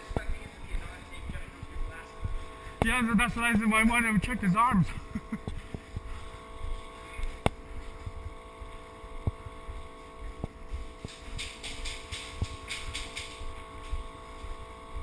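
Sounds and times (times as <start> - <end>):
wind rumble on microphone: 0.0 - 3.3, 4.8 - 15.0.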